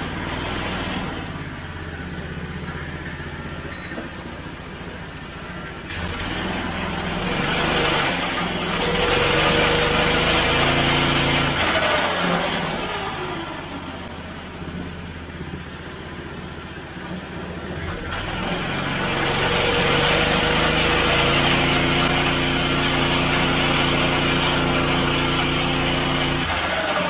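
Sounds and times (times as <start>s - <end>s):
small engine revving: 0.0s - 27.0s.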